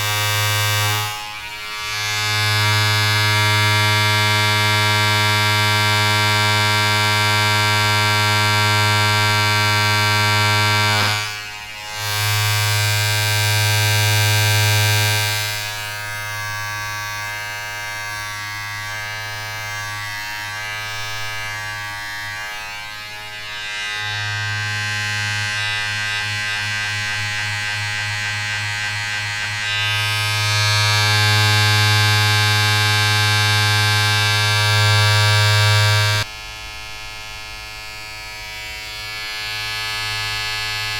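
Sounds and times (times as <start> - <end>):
electric buzzing drone: 0.0 - 40.9.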